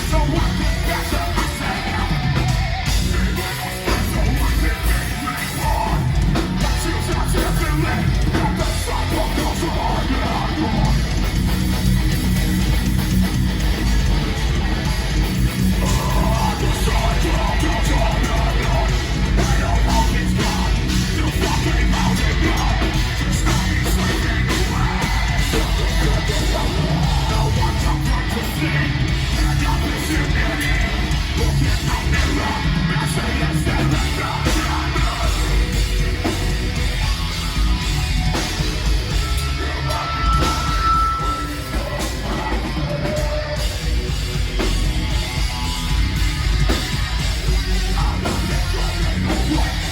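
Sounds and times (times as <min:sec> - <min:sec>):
harsh yelled vocal: 0:00.0 - 0:12.0, 0:14.2 - 0:49.9
live heavy metal band: 0:00.0 - 0:49.9.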